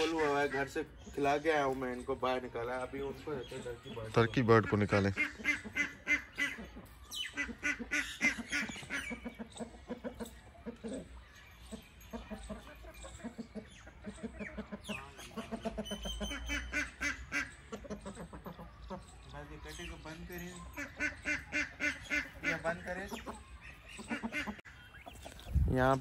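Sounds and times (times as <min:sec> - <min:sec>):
poultry calling: 0:00.0 - 0:25.5.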